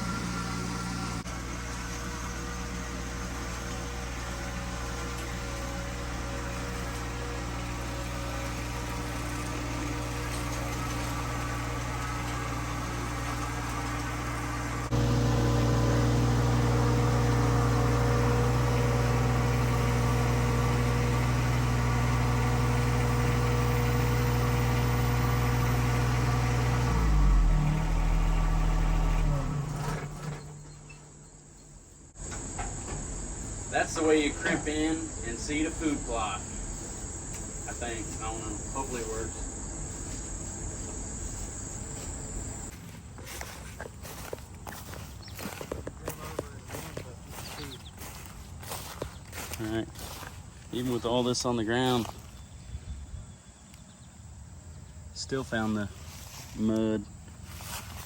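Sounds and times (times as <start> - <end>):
vehicle engine running: 0.0 - 53.2, 55.3 - 58.0.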